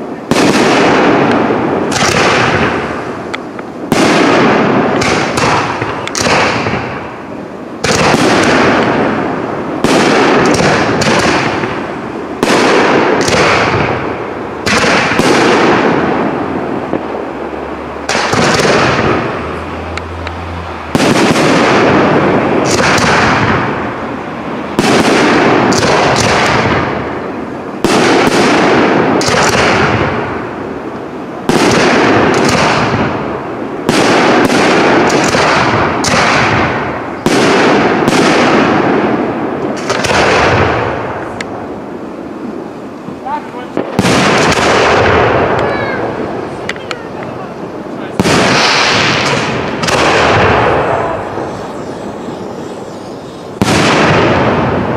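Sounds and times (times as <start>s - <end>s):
firework shells bursting: 0.0s - 54.9s
rumbling echo: 0.0s - 54.9s.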